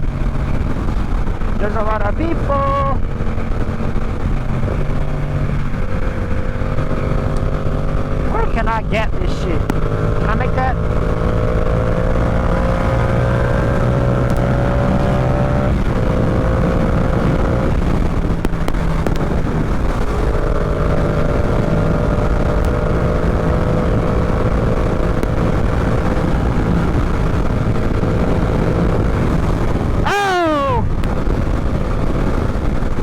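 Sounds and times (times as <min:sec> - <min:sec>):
motorcycle engine running: 0:00.0 - 0:33.0
wind rushing: 0:00.0 - 0:33.0.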